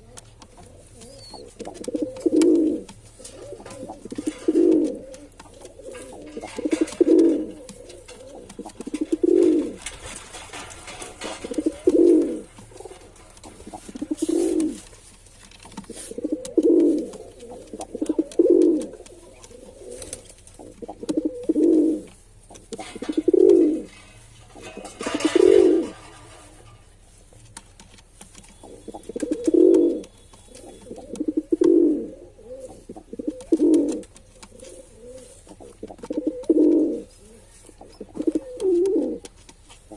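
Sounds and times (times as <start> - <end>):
pigeon cooing: 0.0 - 15.0, 15.7 - 26.8, 28.4 - 39.9.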